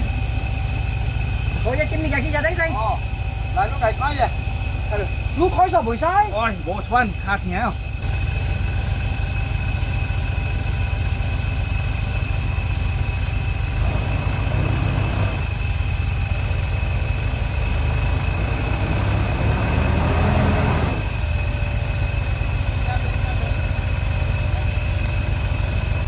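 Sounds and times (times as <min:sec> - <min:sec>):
truck engine running at low revs: 0:00.0 - 0:26.0.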